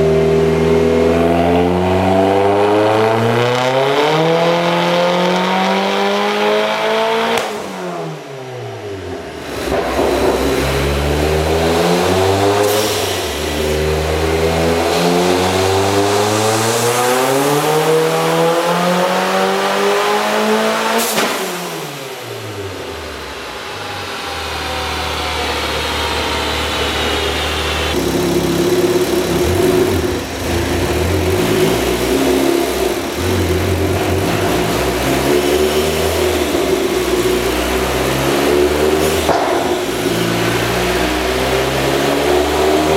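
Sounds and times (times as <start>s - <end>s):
car engine revving on dyno: 0.0s - 42.9s.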